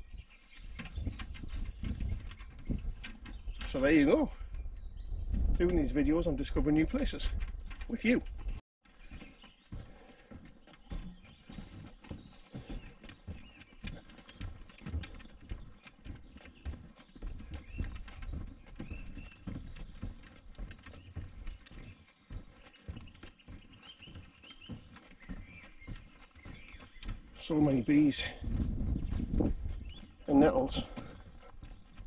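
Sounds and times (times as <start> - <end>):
footsteps on wooden boardwalk: 0.0 - 32.0.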